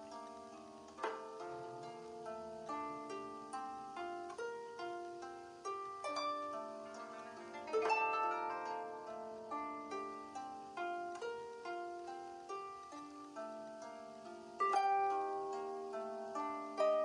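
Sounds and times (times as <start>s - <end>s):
gentle plucked-string tune: 0.0s - 17.0s.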